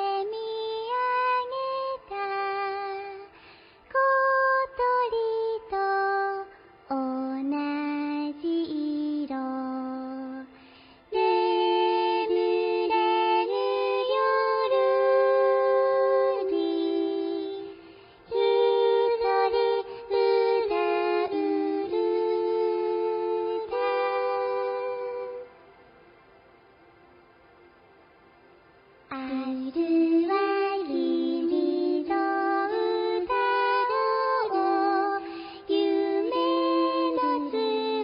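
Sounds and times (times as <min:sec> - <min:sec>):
woman singing slow song: 0:00.0 - 0:25.7, 0:29.1 - 0:38.0.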